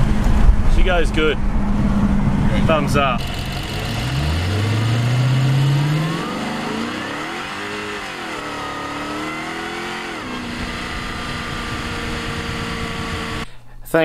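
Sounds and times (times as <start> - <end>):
car engine accelerating hard: 0.0 - 13.5.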